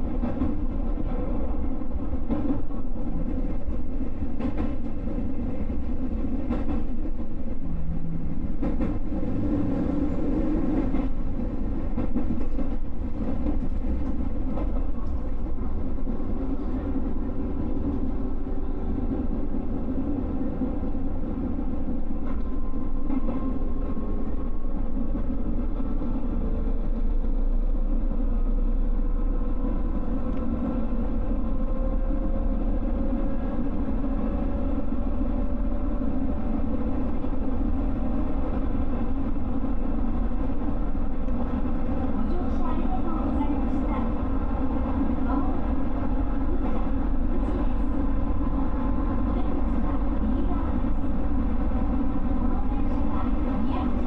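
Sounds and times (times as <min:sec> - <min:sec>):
rail clicks: 0:00.0 - 0:32.3, 0:32.9 - 0:54.0
train rumble on board: 0:00.0 - 0:54.0.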